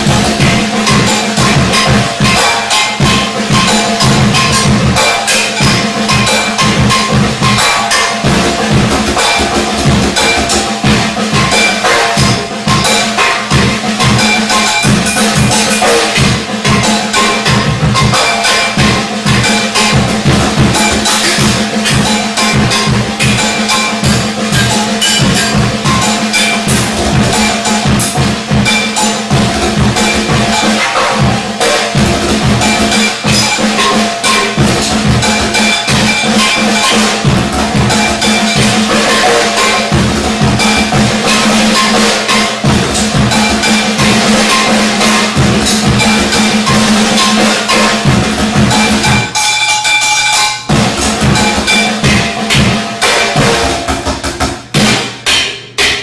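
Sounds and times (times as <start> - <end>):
drum beat: 0.0 - 49.7, 50.5 - 56.0
wood block strikes: 0.0 - 56.0.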